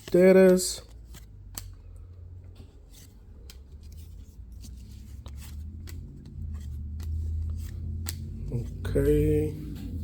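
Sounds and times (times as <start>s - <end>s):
cards ticking and sliding: 0.0s - 10.0s.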